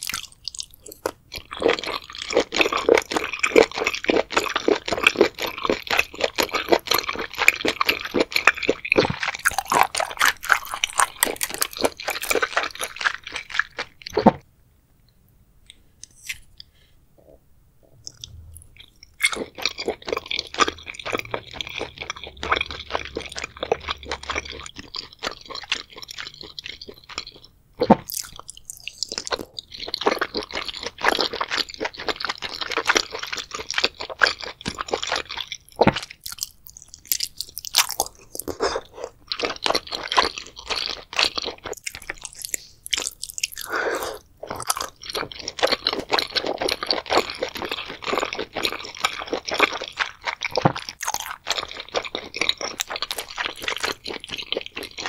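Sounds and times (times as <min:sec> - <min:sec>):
close chewing and biting: 0:00.0 - 0:14.4, 0:17.9 - 0:55.0.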